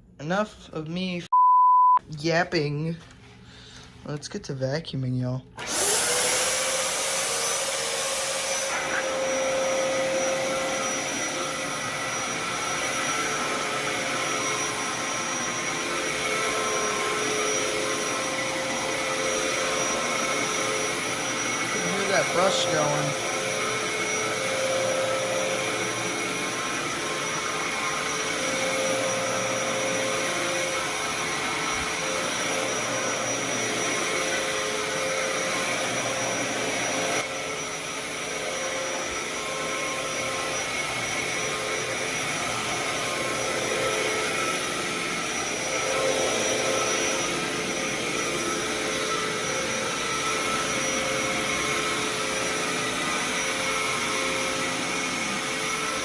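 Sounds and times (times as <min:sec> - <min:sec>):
vacuum cleaner running: 0:05.6 - 0:56.0.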